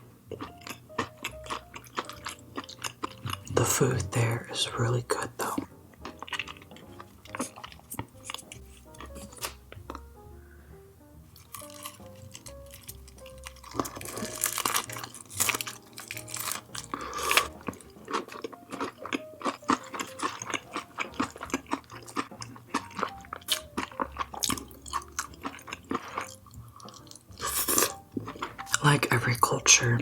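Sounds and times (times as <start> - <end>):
chewing with wet clicks and crunches: 0.0 - 4.4, 5.0 - 10.1, 11.4 - 30.0
faint background music: 0.0 - 30.0.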